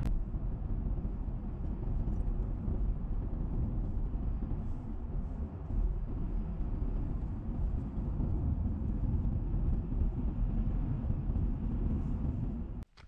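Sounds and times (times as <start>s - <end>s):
car road and engine rumble: 0.0s - 12.9s.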